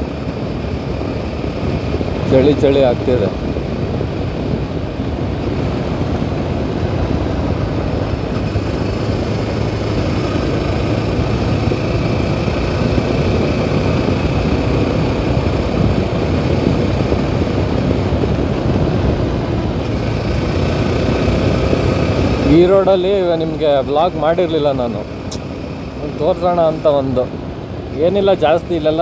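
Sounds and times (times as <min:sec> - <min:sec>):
motorcycle engine cruising: 0:00.0 - 0:29.0
wind and road noise: 0:00.0 - 0:29.0.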